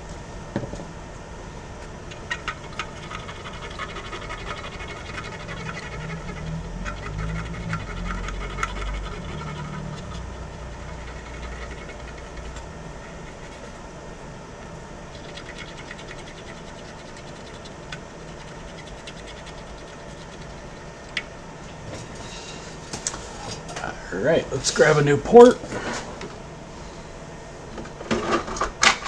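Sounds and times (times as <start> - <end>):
low hum of bench equipment: 0.0 - 29.0.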